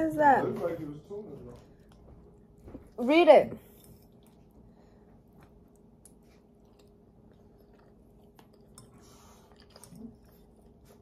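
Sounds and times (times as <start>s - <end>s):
faint chewing: 0.6s - 11.0s.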